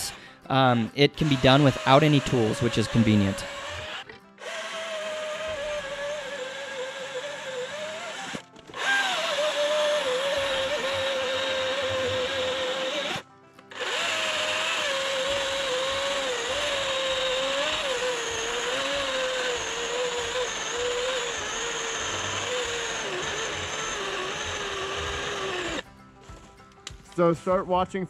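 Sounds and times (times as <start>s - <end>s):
chainsaw cutting log: 1.2s - 25.8s.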